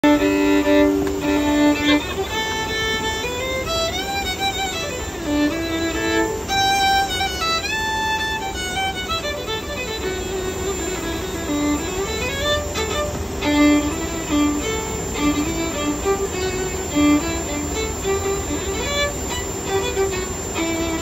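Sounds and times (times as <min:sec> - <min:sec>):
solo violin melody: 0:00.0 - 0:21.0.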